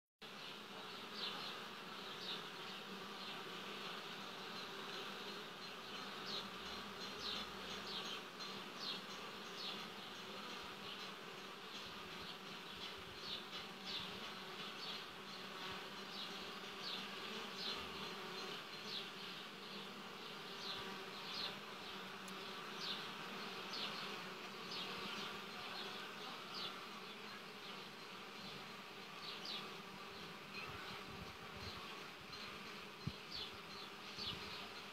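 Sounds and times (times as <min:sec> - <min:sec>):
honeybees buzzing: 0:00.2 - 0:34.9.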